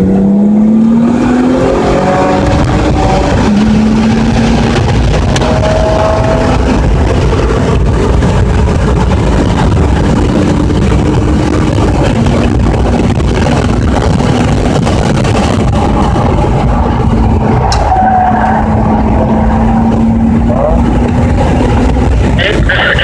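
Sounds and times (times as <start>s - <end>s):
car engine accelerating: 0.0s - 23.0s
road and wind rumble: 0.0s - 23.0s.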